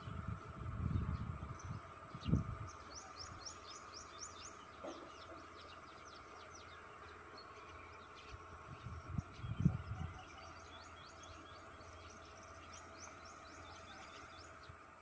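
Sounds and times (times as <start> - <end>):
bird singing: 0.0 - 15.0
insects droning: 0.0 - 15.0.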